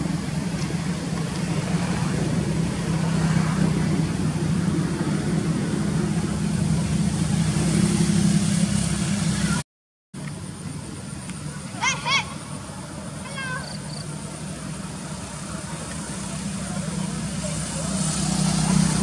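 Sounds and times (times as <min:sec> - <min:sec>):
low engine hum: 0:00.0 - 0:09.6, 0:10.2 - 0:19.0.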